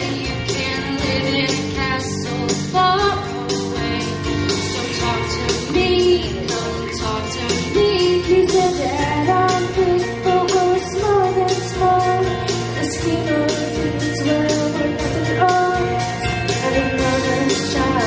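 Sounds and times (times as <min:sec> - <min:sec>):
girls singing a duet: 0:00.0 - 0:18.0
instrumental accompaniment: 0:00.0 - 0:18.0.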